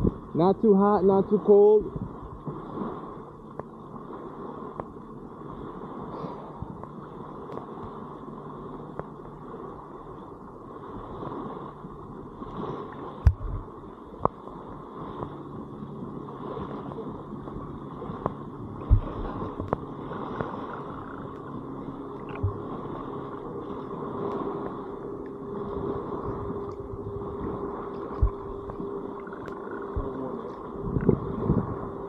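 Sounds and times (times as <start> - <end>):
river water sloshing and gurgling: 0.0 - 32.0.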